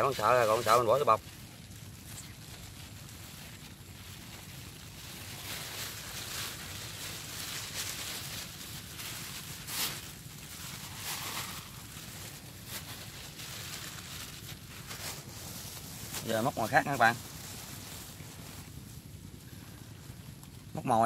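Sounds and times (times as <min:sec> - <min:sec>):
rustling and handling noise: 0:00.0 - 0:21.0.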